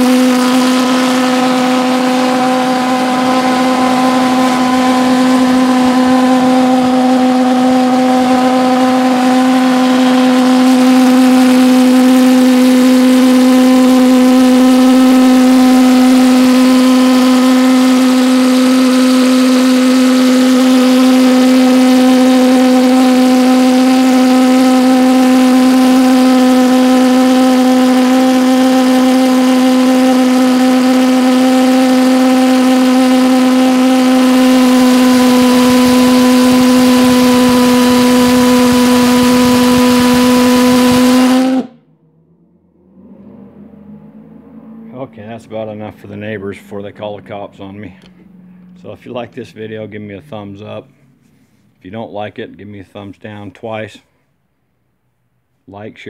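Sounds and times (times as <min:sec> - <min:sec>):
pulse jet engine drone: 0:00.0 - 0:55.4.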